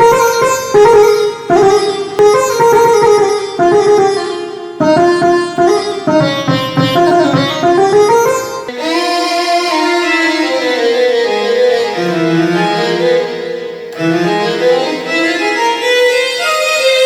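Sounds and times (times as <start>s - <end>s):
electronic keyboard melody: 0.0s - 17.0s.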